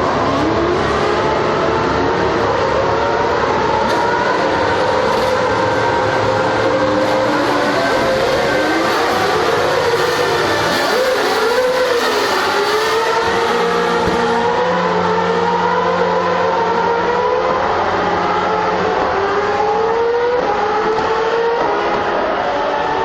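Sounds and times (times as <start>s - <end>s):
racing car engine: 0.0s - 23.0s.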